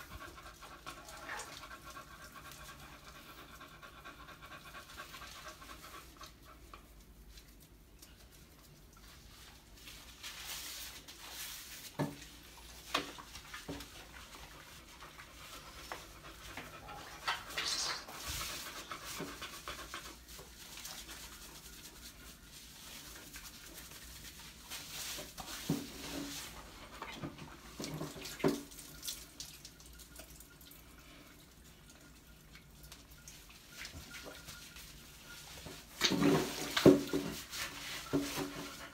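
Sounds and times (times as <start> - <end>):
hands lathering wet fur: 0.0 - 3.4, 4.6 - 38.9.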